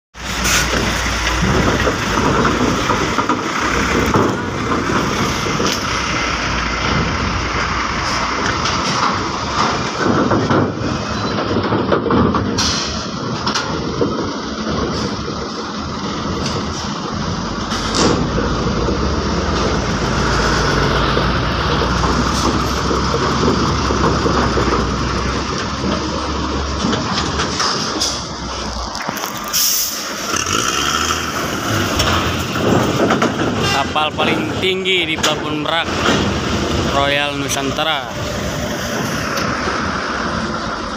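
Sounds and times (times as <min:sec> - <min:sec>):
heavy trucks driving over steel ramp: 0:00.2 - 0:40.9.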